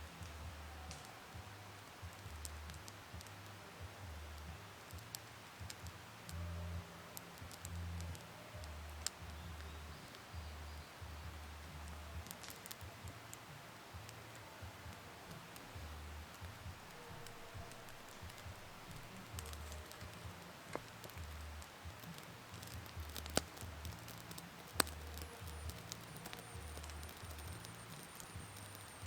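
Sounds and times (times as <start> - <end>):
faint ticking and rustling: 0.0 - 29.0
sharp clicks: 0.0 - 29.0.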